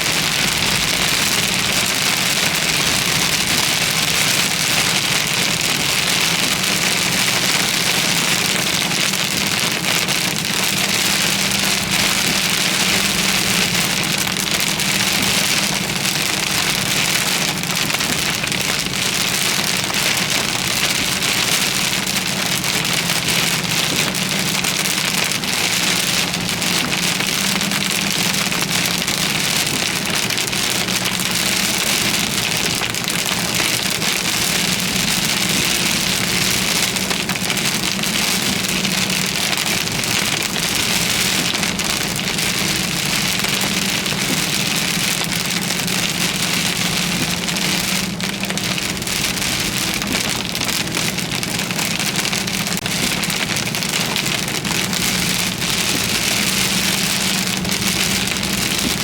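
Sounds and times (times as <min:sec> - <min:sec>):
heavy rain on a vehicle: 0:00.0 - 0:59.0.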